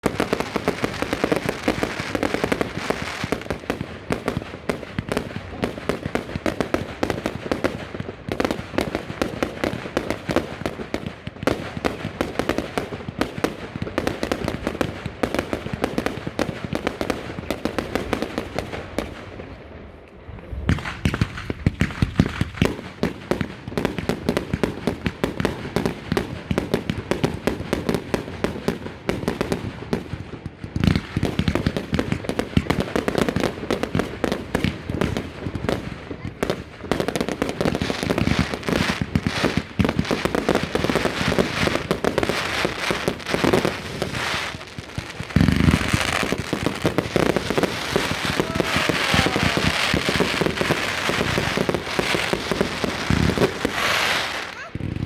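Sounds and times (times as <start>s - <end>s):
firecrackers banging: 0.0s - 25.7s, 30.1s - 55.0s.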